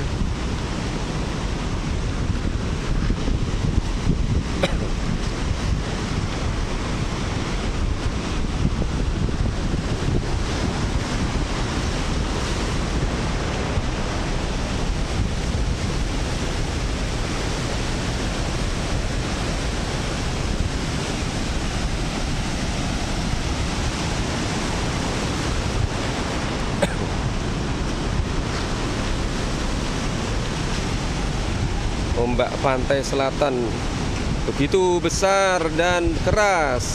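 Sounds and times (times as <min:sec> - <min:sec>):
wind buffeting microphone: 0:00.0 - 0:32.2.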